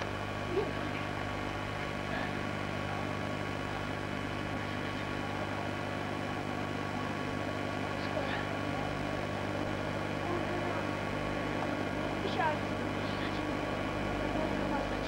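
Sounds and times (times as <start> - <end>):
camcorder hum and hiss: 0.0 - 15.0.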